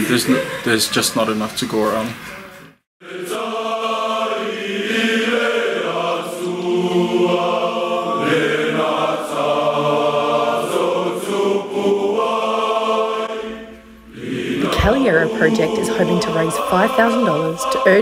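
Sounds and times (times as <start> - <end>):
men singing as a choir: 3.0 - 18.0.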